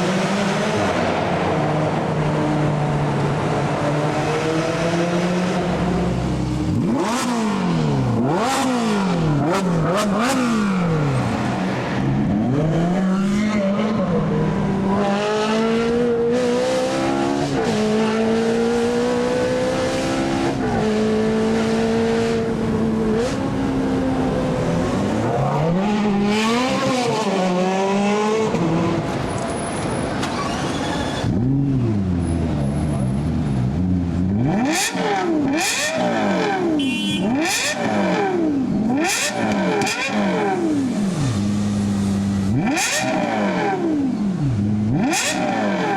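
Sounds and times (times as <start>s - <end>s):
car engine revving: 0.0s - 29.4s, 31.2s - 45.9s.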